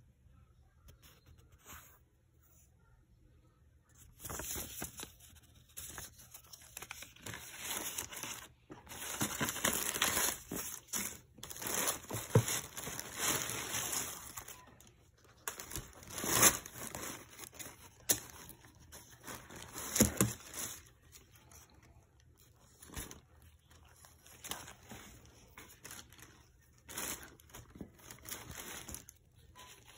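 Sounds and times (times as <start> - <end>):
tissue paper rustling and crinkling: 4.0 - 29.9.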